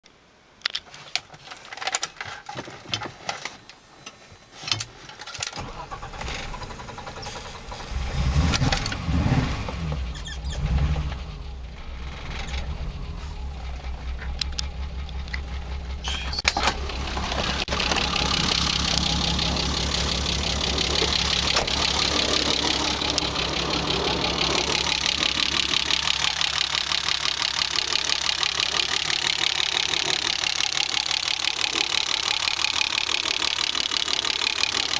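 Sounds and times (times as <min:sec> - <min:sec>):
car engine cranking and idling rough: 0:05.6 - 0:34.9.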